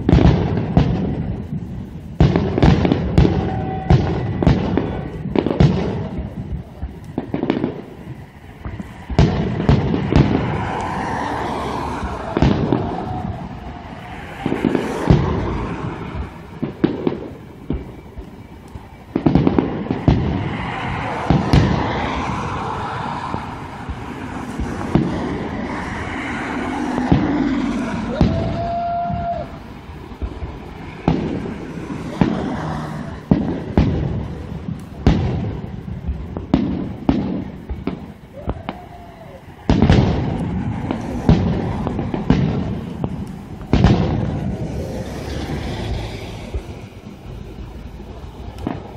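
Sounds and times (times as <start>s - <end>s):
firework shells booming: 0.0s - 48.9s
lingering rumble: 0.0s - 48.9s.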